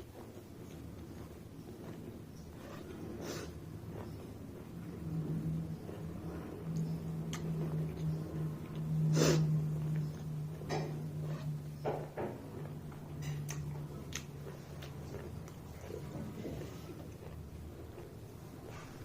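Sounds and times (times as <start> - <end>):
steady low hum: 0.0 - 19.0
chewing and mouth smacks: 0.1 - 11.7, 12.5 - 19.0.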